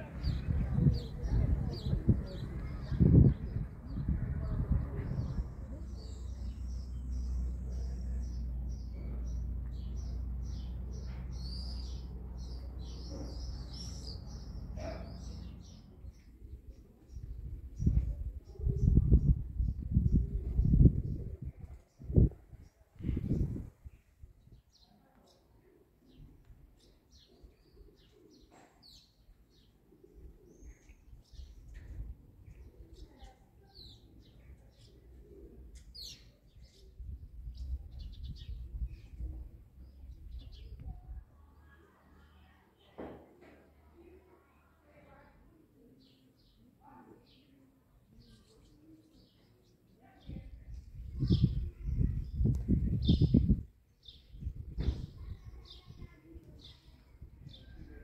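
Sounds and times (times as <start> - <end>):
small birds chirping: 0.0 - 43.0, 46.0 - 58.0.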